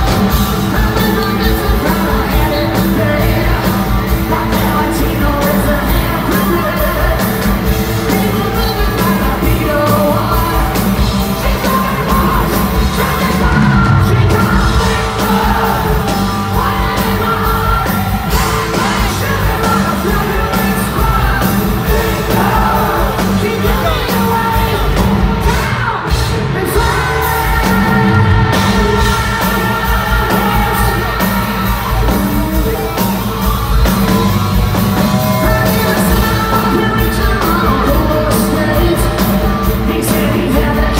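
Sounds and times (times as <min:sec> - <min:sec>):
man singing: 0:00.0 - 0:33.1, 0:35.0 - 0:40.9
hard rock band playing: 0:00.0 - 0:40.9.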